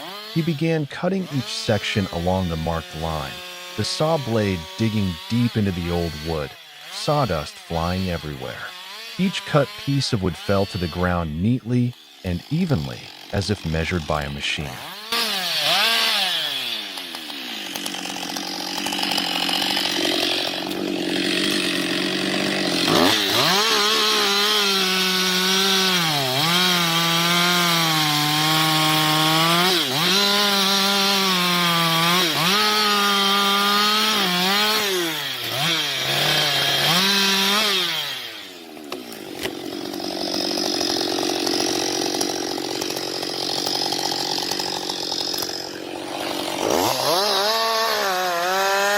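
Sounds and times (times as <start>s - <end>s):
chainsaw cutting log: 0.0s - 48.9s.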